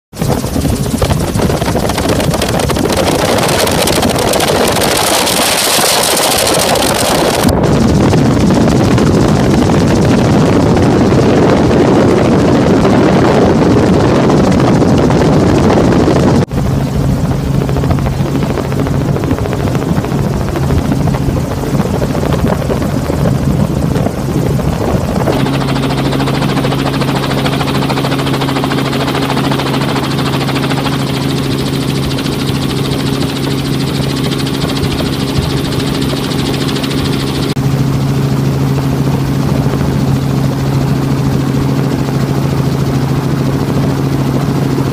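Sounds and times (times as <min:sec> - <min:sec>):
helicopter engine and rotor: 0:00.1 - 0:44.9.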